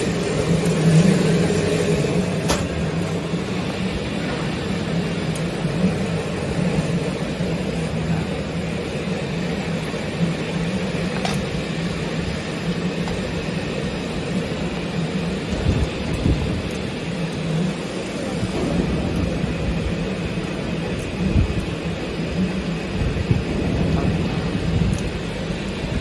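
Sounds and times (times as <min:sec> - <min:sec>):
rushing water noise: 0:00.0 - 0:26.0
washing machine motor hum: 0:00.0 - 0:26.0.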